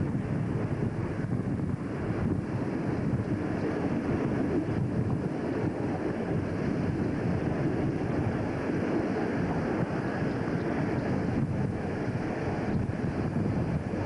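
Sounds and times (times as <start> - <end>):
diesel locomotive train rumbling: 0.0 - 14.0
wind buffeting microphone: 0.0 - 14.0.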